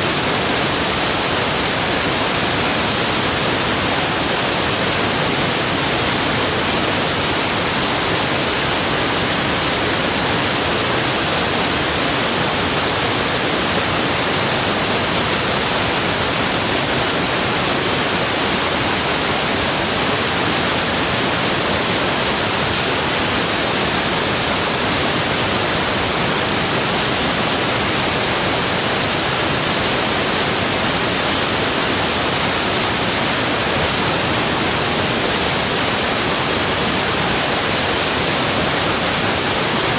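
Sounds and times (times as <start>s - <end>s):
rushing falling water: 0.0s - 39.9s.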